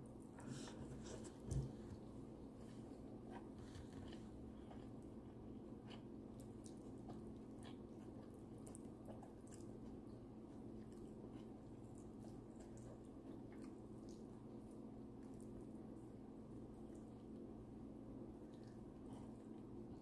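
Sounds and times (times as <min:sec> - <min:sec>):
steady low hum: 0:00.0 - 0:20.0
chewing and smacking: 0:03.1 - 0:20.0.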